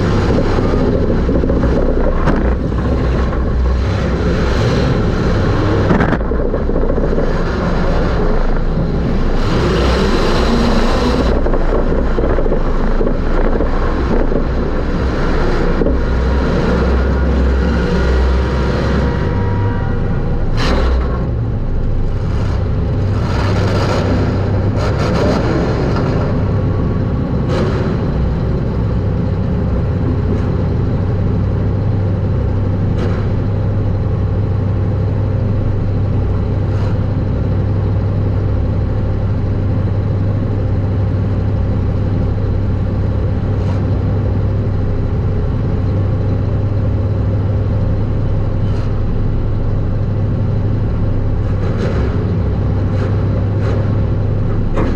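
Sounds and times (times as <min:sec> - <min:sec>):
race car engine droning: 0:00.0 - 0:54.9.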